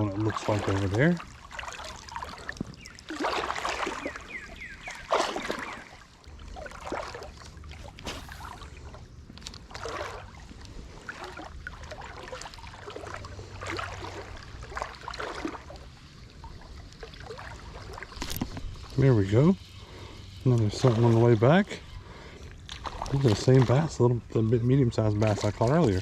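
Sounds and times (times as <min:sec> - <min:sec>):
creek water splashing: 0:00.0 - 0:26.0.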